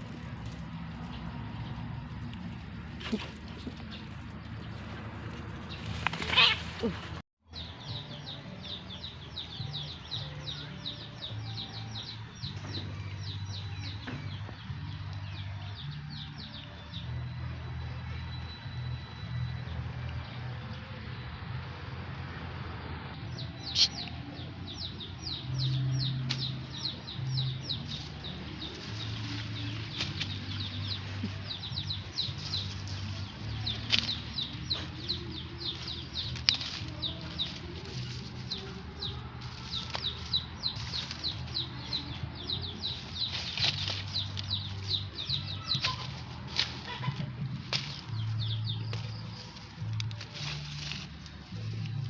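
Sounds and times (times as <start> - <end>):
small birds chirping: 0.0 - 17.4, 23.1 - 52.0.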